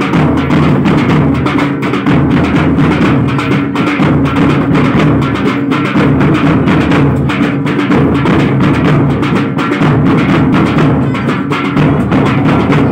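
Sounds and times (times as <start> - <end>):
loud fast drumming: 0.0 - 12.9.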